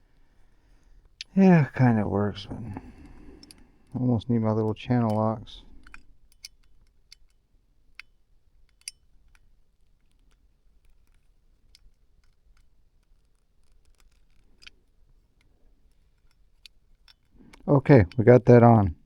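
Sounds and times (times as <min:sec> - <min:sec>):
small hardware clicking and scraping: 0:00.1 - 0:18.2.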